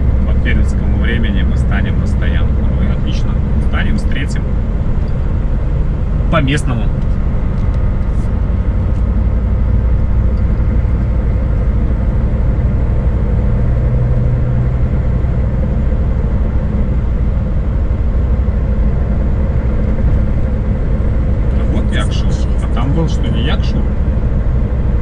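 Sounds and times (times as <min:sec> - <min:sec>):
diesel truck engine droning: 0:00.0 - 0:25.0
tyre and road noise: 0:00.0 - 0:25.0.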